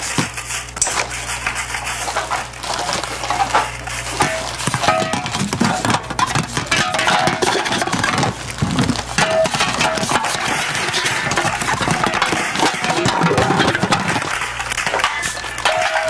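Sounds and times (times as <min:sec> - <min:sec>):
cans and plastic clinking and crackling: 0:00.0 - 0:16.0.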